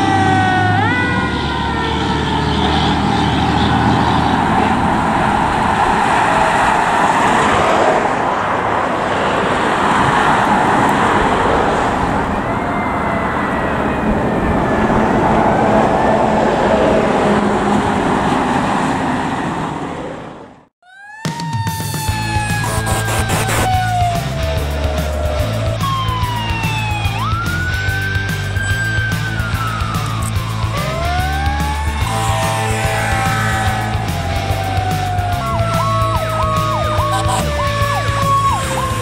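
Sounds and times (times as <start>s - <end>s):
road traffic passing: 0.0s - 20.7s, 21.9s - 39.0s
distant fire truck siren: 0.0s - 39.0s.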